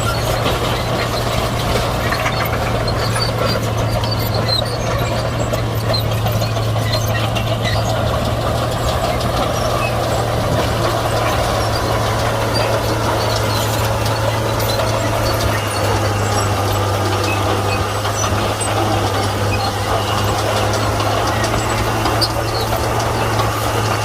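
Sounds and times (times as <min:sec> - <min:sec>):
bulldozer diesel engine droning: 0:00.0 - 0:24.0.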